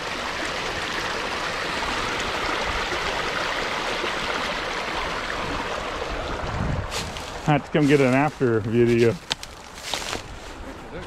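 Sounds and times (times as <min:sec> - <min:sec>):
water running steadily: 0:00.0 - 0:09.4.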